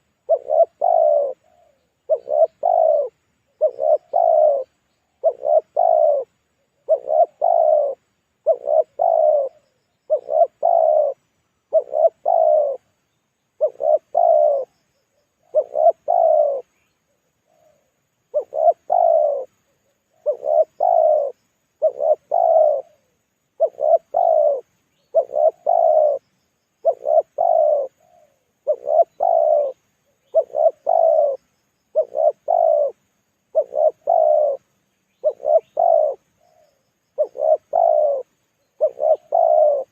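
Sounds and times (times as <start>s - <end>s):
dove cooing: 0.0s - 12.9s, 13.6s - 14.8s, 15.4s - 39.9s.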